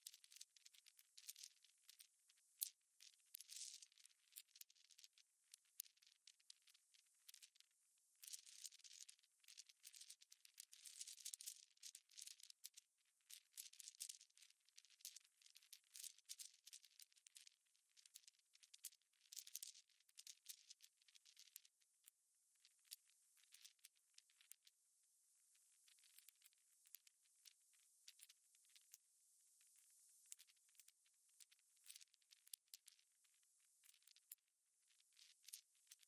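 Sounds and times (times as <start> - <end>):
faint high-pitched crackling: 0.0 - 36.0
faint hiss: 0.0 - 36.0.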